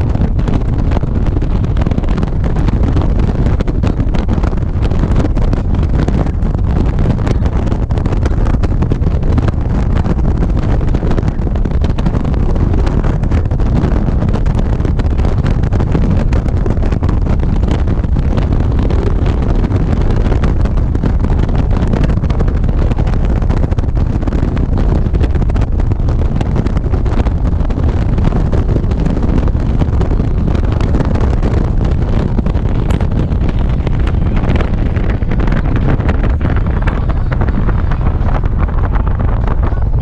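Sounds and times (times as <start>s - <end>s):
deep motorcycle rumble: 0.0s - 40.0s
wind buffeting microphone: 0.0s - 40.0s.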